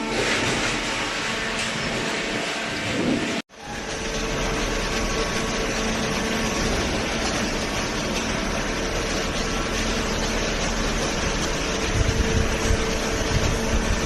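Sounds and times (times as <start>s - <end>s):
industrial machinery running: 0.0s - 14.0s.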